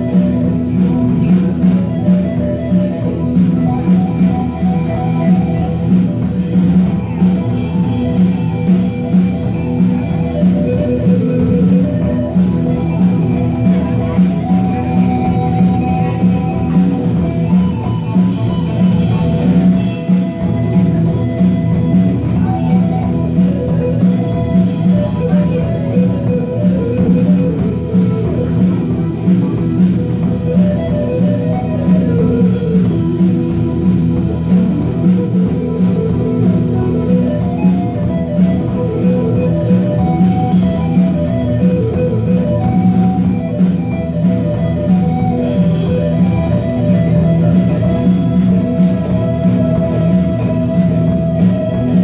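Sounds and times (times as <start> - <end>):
rock band playing blues: 0.0 - 52.0.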